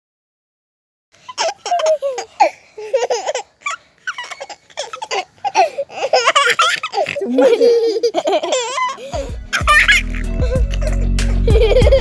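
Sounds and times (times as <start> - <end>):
baby laughing and babbling: 1.3 - 12.0.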